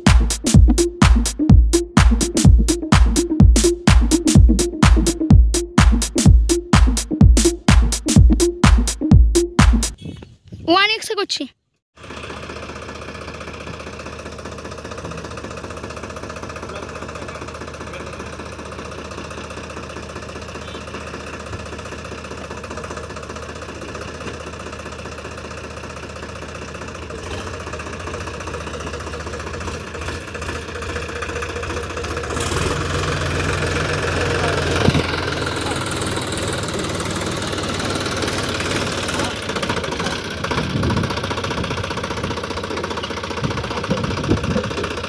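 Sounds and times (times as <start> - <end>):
tractor diesel engine running: 0.0 - 10.0, 12.0 - 45.0.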